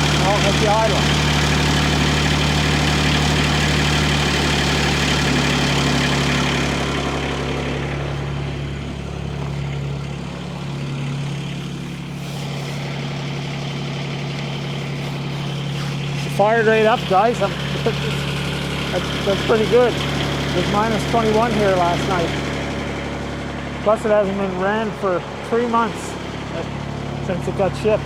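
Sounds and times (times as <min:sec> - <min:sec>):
diesel engine warming up: 0:00.0 - 0:28.0.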